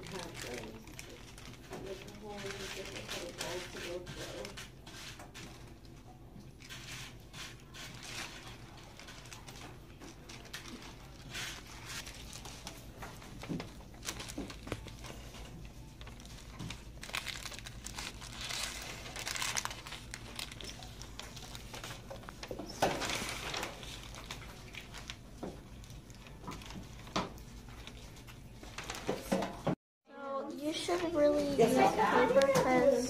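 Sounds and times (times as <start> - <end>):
paper crinkling and rustling: 0.0 - 29.7.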